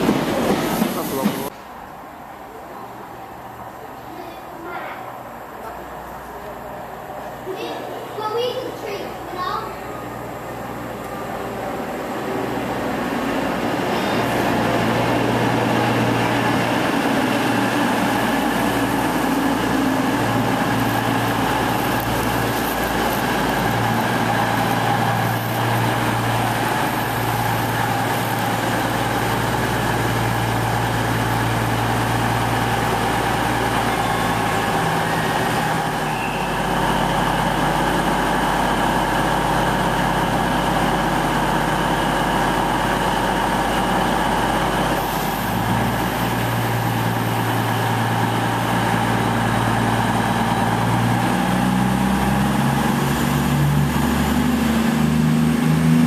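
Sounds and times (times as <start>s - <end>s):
diesel train engine humming: 0.0s - 56.0s.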